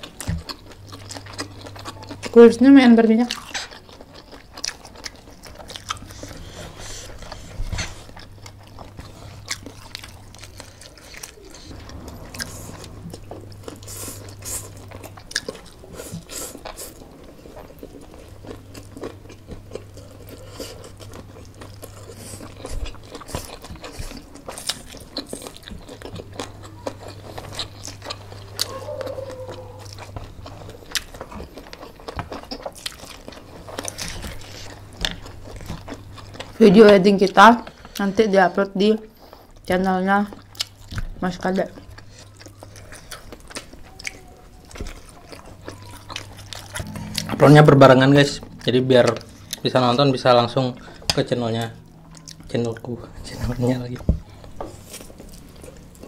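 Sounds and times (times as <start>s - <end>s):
wet chewing: 0.0s - 56.0s.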